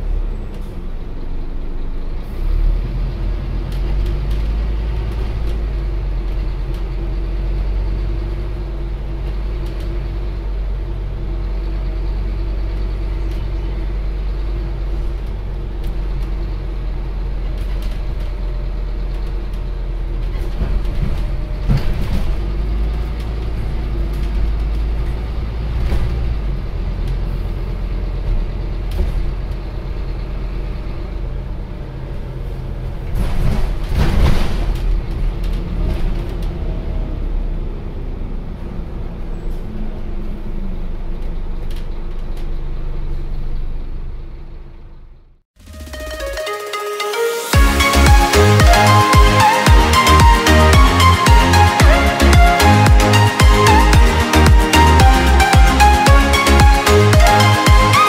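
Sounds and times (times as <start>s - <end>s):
bus diesel engine drone: 0.0s - 58.0s
road noise: 0.0s - 58.0s.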